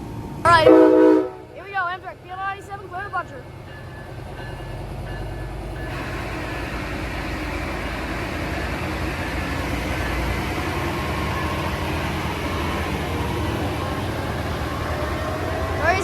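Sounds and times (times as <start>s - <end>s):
diesel locomotive rumble: 0.0s - 16.0s
train wheel and rail noise: 0.0s - 16.0s.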